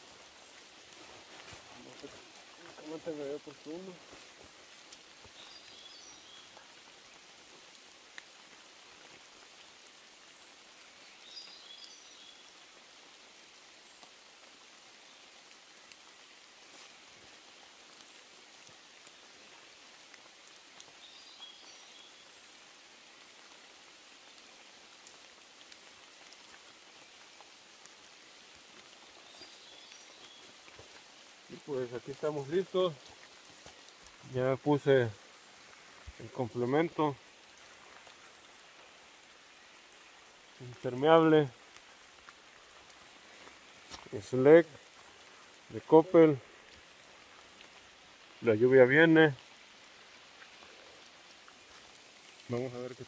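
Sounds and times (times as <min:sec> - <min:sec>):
light rain on foliage: 0:00.0 - 0:53.0.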